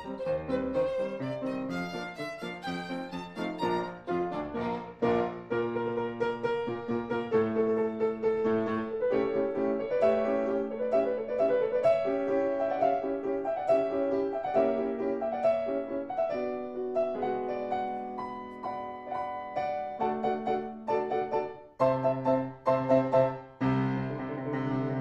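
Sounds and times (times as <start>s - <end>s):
solo piano music: 0.0s - 25.0s.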